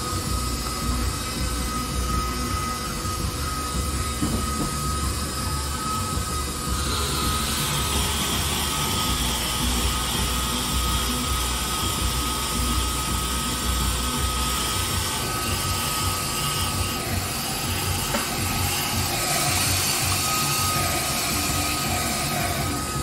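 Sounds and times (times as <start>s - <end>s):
stand mixer motor whine: 0.0s - 23.0s.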